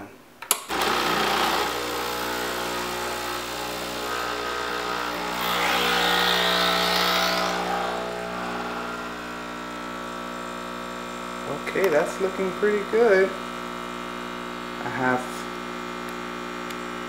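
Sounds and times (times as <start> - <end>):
espresso machine pump buzzing: 0.7 - 17.0.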